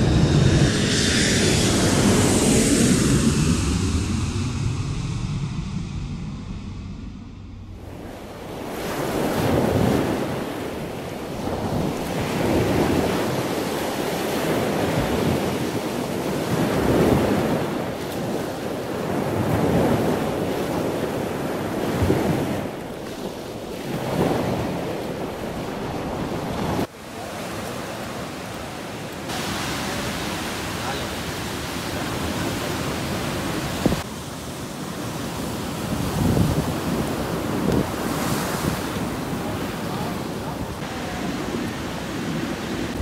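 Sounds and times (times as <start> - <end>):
wind on microphone: 0.0 - 26.9, 28.0 - 43.0
waves breaking on shore: 7.6 - 43.0.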